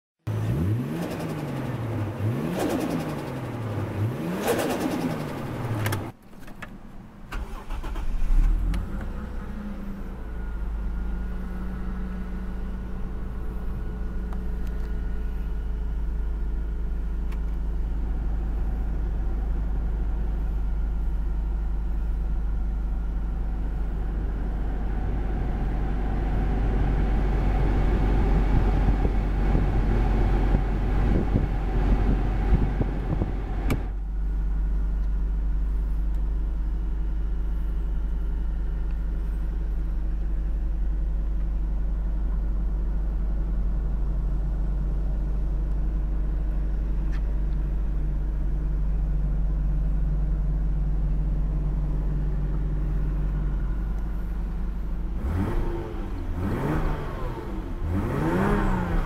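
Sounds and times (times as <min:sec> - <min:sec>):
car engine starting and idling: 0:00.3 - 0:59.0.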